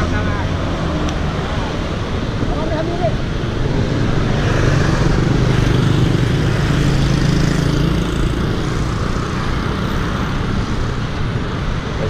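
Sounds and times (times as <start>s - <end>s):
steady traffic noise: 0.0s - 12.0s.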